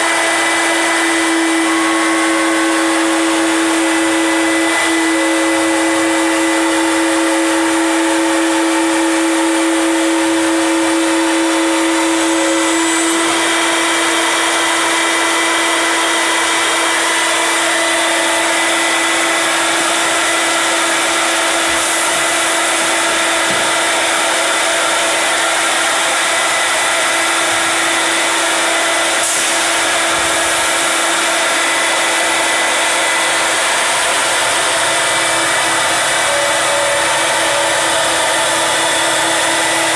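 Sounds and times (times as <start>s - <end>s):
cnc spindle cutting wood: 0.0s - 39.9s.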